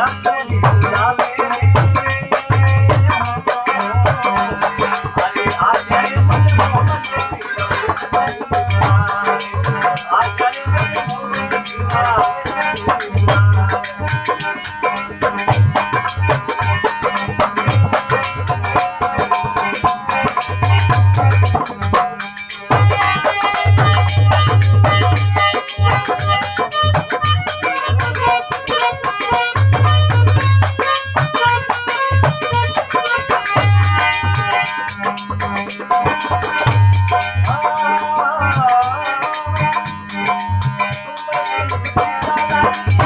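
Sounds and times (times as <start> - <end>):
rattling percussion: 0.0 - 43.0.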